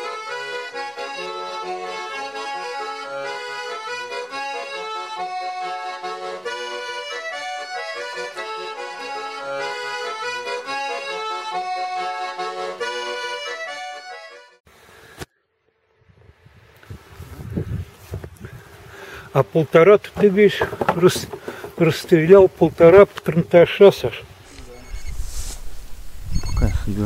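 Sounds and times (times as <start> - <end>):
traditional-style instrumental music: 0.0 - 14.6, 17.9 - 26.0.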